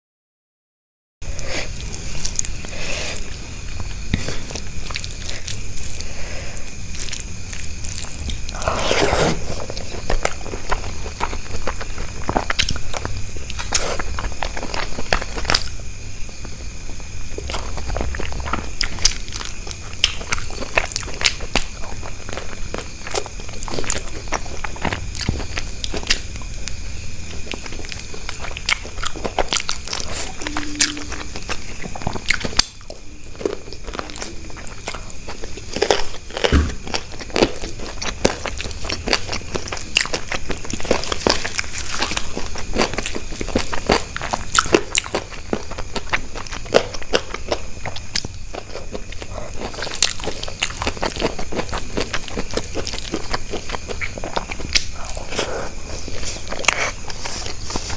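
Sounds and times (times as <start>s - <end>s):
person chewing crunchy food: 1.2s - 57.9s.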